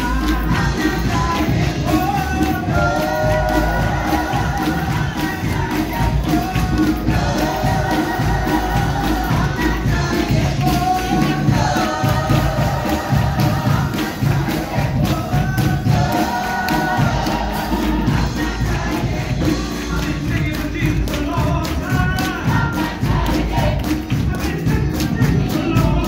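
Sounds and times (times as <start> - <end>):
choir singing a hymn: 0.0 - 21.0, 21.7 - 24.5.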